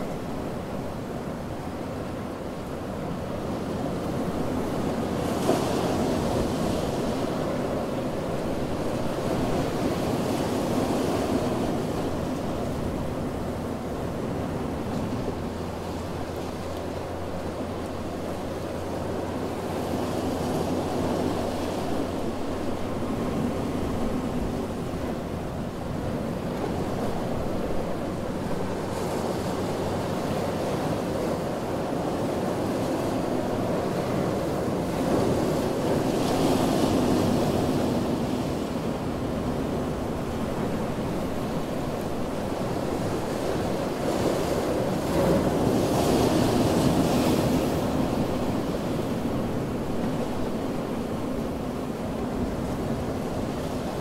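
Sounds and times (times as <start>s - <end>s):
ocean surf washing onto beach: 0.0s - 54.0s
waves breaking and hissing: 0.0s - 54.0s.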